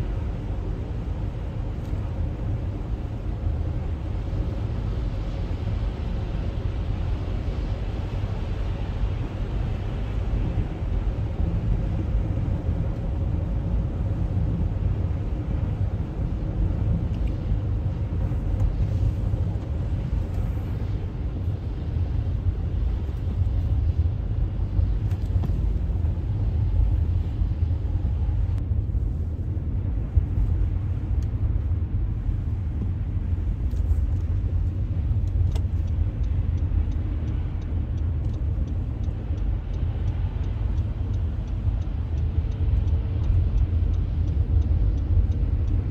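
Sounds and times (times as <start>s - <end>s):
car road rumble from inside: 0.0s - 45.9s.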